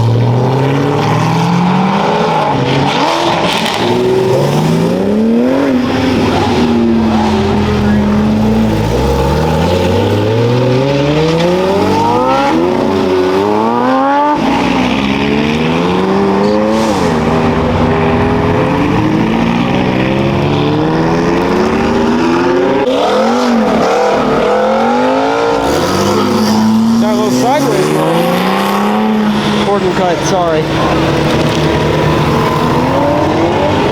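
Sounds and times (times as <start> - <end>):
race car engines accelerating: 0.0 - 33.9.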